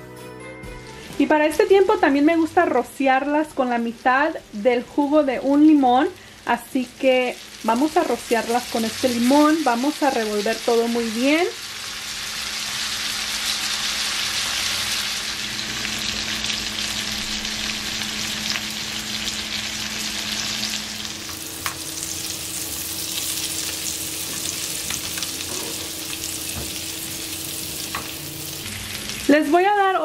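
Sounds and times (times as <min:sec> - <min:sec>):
potatoes sizzling in a skillet: 0:03.2 - 0:30.0.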